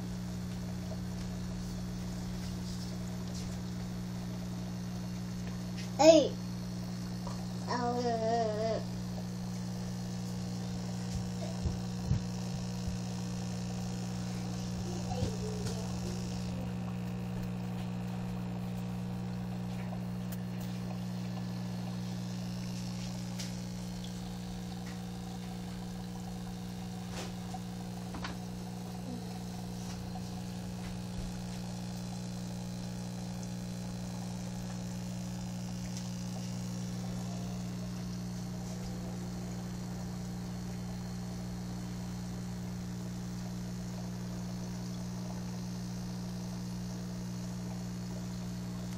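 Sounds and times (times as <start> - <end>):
aquarium air pump humming: 0.0 - 48.9.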